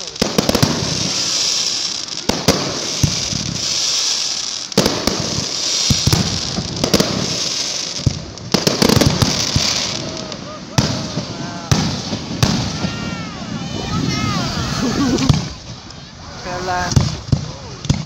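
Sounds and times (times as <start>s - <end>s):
continuous hiss: 0.0s - 18.0s
fireworks bursting: 0.0s - 18.0s.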